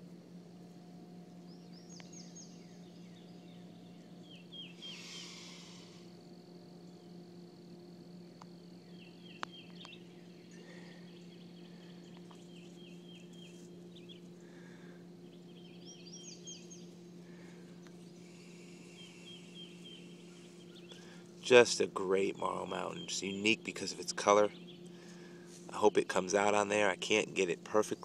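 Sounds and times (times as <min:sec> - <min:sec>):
faint low hum: 0:00.0 - 0:28.0
distant birds chirping: 0:00.4 - 0:28.0.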